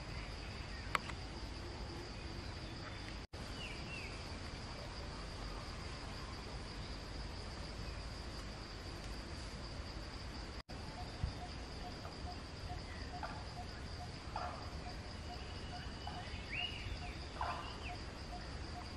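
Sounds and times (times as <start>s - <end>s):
insects trilling: 0.0s - 18.9s.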